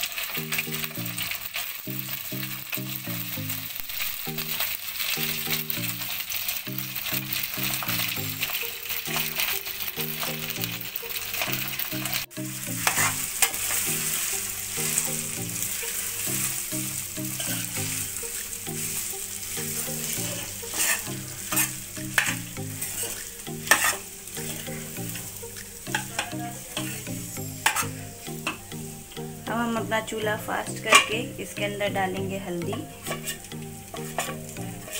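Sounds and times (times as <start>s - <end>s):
spatula scraping a pan: 0.0s - 28.6s, 32.8s - 34.9s
rice sizzling in hot oil: 0.0s - 34.9s
soft background tune: 0.0s - 34.9s.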